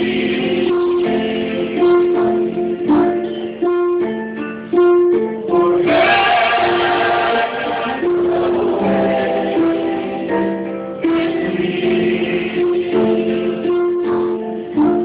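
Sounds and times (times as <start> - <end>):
person singing: 0.0 - 3.0, 5.8 - 15.0
plucked stringed instrument: 0.0 - 15.0.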